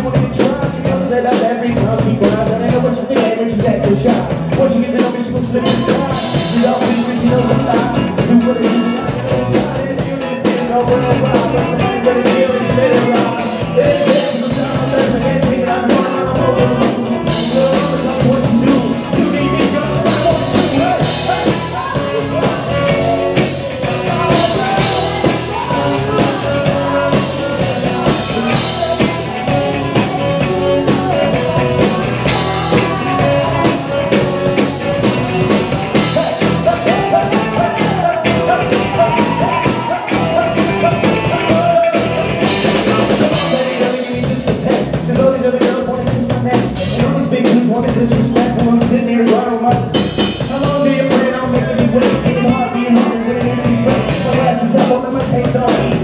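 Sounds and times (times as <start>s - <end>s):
drum kit: 0.0s - 56.0s
live rock band: 0.0s - 56.0s
person singing: 0.0s - 56.0s.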